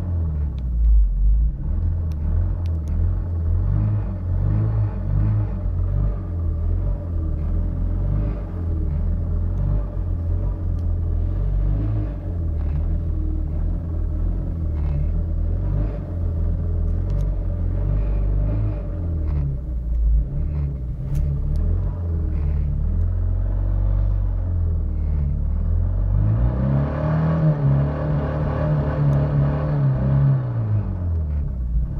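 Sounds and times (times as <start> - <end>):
car engine misfiring rumble: 0.0 - 31.9.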